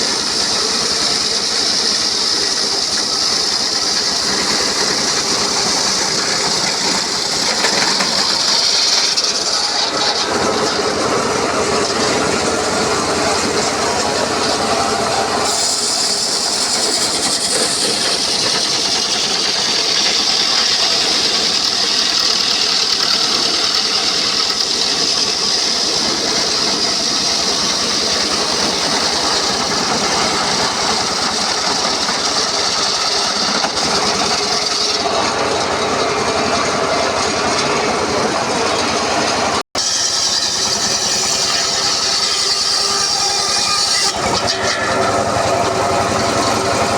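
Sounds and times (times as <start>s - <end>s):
circular saw cutting log: 0.0s - 46.9s.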